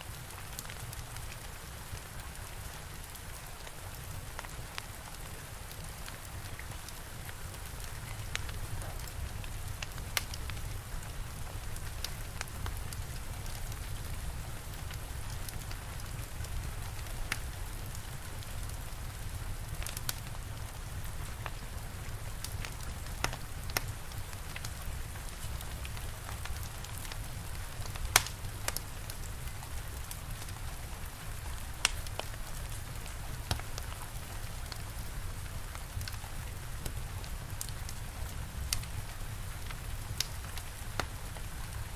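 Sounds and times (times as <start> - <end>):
steady rain: 0.0 - 41.9
fire crackling: 0.1 - 41.9.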